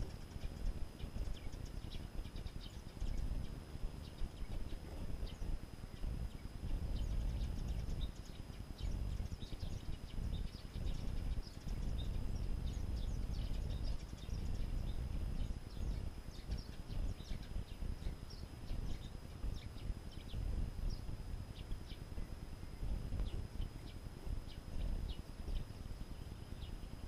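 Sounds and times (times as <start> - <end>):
birds twittering: 0.0 - 27.0.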